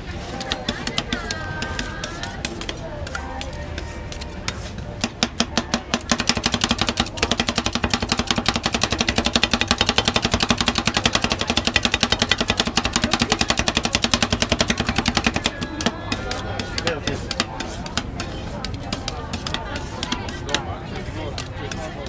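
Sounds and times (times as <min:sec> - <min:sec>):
metal spatulas chopping on steel plate: 0:00.2 - 0:22.0.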